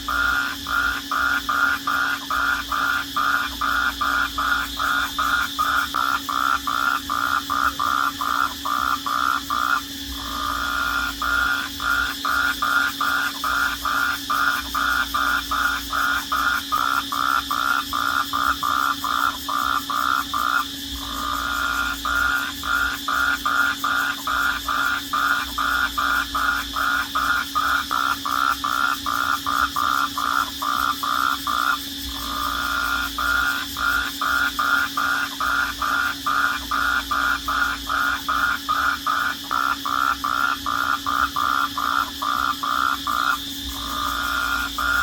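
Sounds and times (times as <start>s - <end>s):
loud pulsing insect call: 0.0s - 45.0s.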